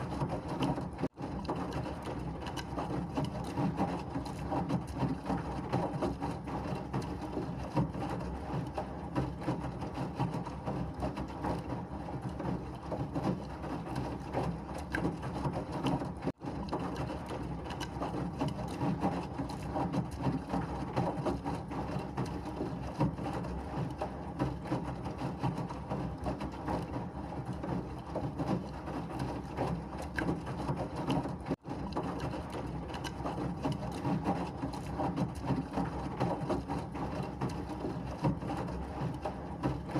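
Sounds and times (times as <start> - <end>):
washing machine churning: 0.0 - 39.9.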